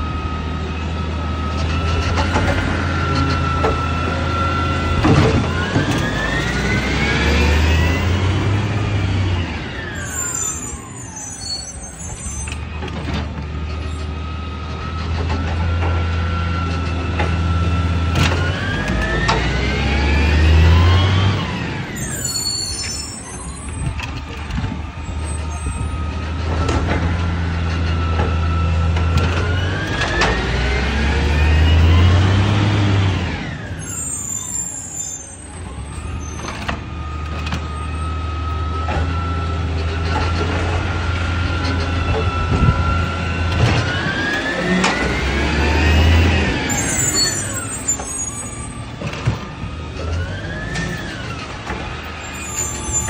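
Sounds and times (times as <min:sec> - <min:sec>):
garbage truck engine revving: 0:00.0 - 0:11.0, 0:12.6 - 0:53.0
hydraulics whining: 0:00.0 - 0:53.0.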